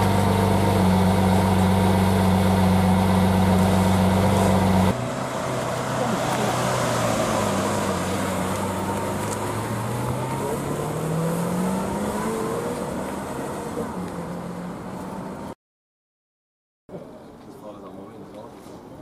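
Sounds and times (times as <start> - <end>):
car engine revving: 0.0 - 15.5.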